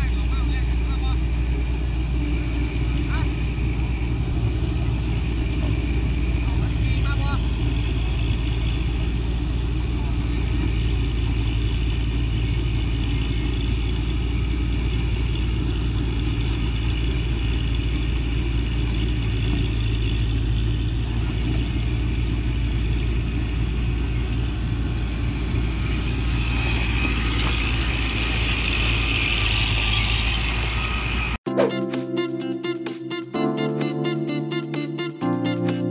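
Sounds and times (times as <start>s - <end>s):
vehicle engine droning: 0.0s - 35.9s.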